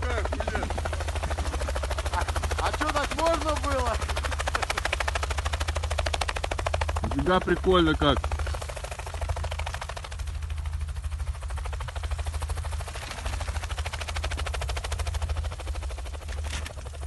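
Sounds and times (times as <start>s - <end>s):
helicopter rotor chopping: 0.0s - 17.0s
steady low rumble: 0.0s - 17.0s.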